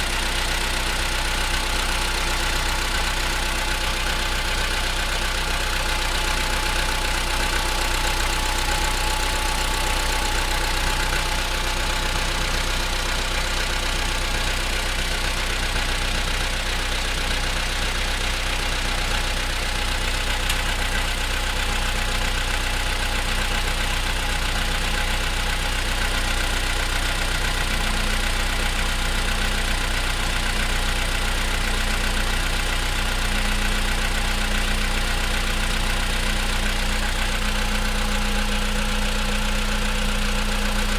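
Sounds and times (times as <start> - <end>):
cold engine idling with knocking: 0.0 - 40.9.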